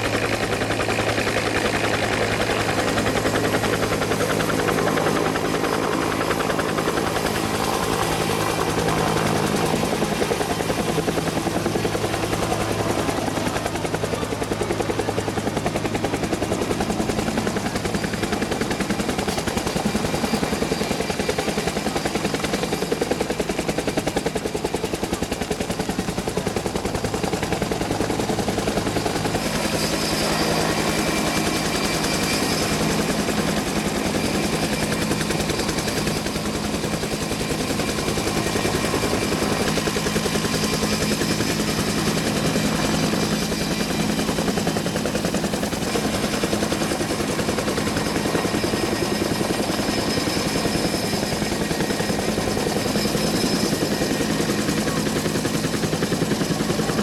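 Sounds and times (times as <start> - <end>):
helicopter rotor beating: 0.0 - 57.0.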